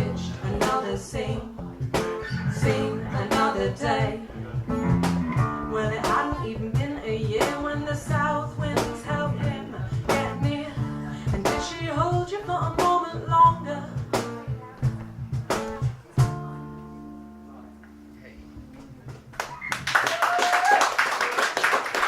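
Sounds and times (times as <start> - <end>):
guitar strumming: 0.0 - 19.7.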